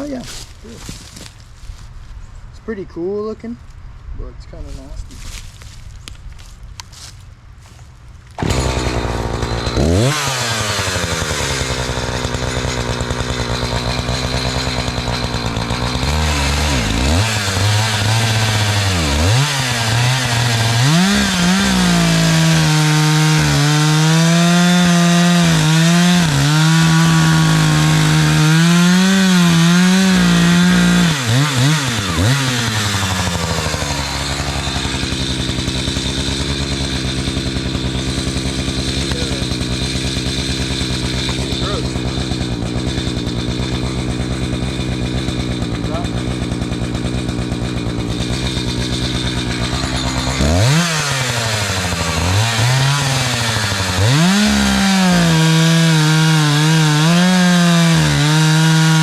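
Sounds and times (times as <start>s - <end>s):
chainsaw revving and cutting log: 8.4s - 59.0s.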